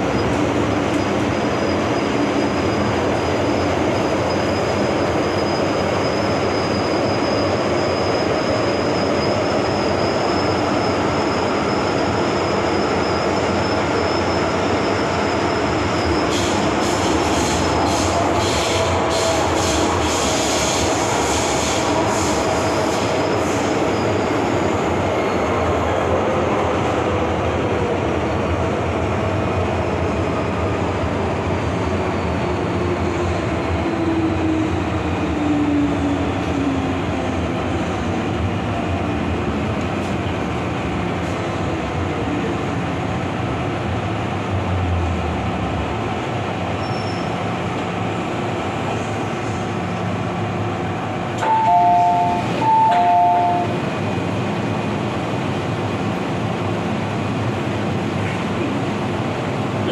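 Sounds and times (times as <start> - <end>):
train wheel and running noise: 0.0 - 59.9.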